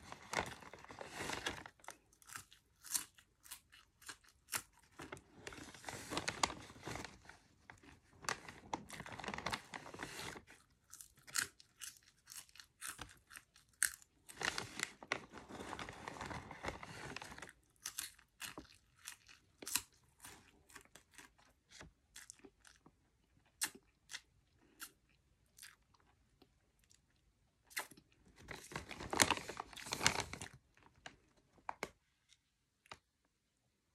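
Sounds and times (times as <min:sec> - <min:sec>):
popcorn crunching and chewing: 0:00.0 - 0:31.9.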